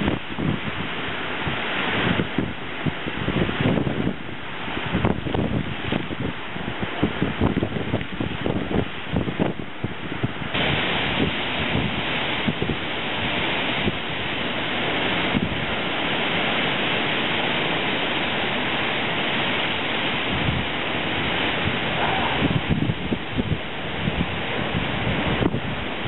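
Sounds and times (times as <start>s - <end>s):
heavy rain: 0.0s - 26.0s
wind gusts buffeting microphone: 0.0s - 26.0s.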